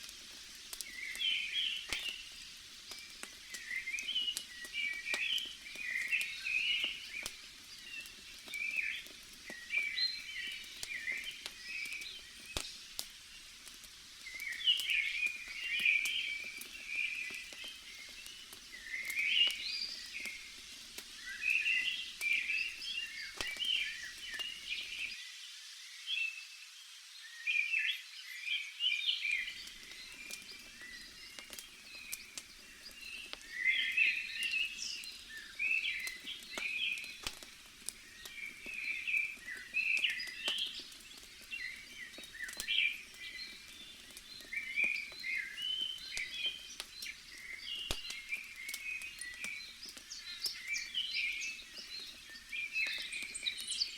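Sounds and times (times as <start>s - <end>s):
campfire crackling: 0.0s - 25.2s, 29.2s - 53.9s.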